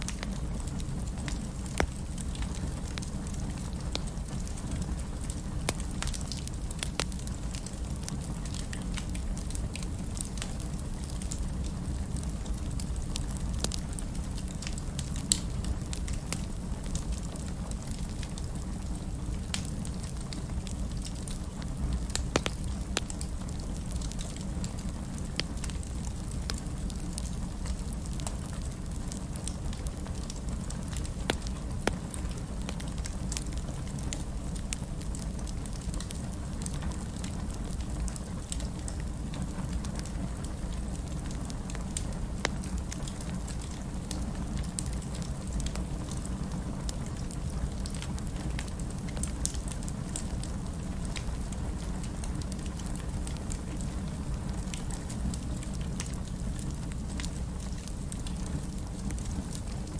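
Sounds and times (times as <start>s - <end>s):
fire burning with low rumble: 0.0s - 59.9s
fire crackling and popping: 0.0s - 59.9s.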